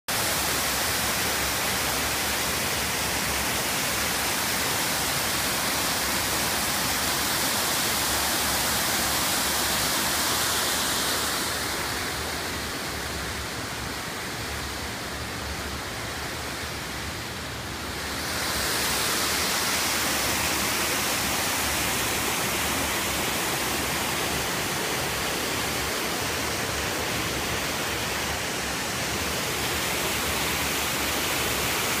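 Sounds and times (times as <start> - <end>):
waterfall rushing over rocks: 0.1 - 32.0.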